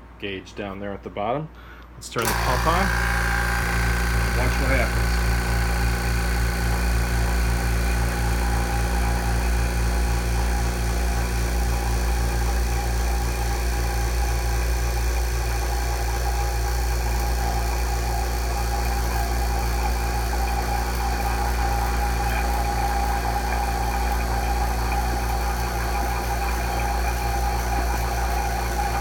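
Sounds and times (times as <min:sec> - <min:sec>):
vacuum pump humming: 0:02.2 - 0:29.0.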